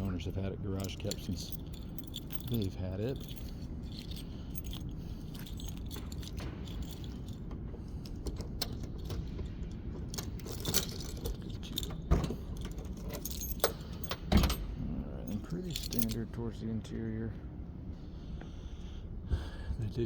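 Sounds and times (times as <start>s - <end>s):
keys jangling and clicking: 0.0s - 16.6s.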